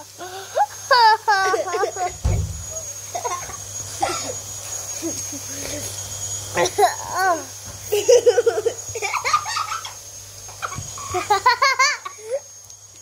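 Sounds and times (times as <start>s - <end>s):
boy giggling: 0.2s - 4.4s, 5.0s - 5.9s, 6.6s - 10.0s, 10.6s - 12.5s.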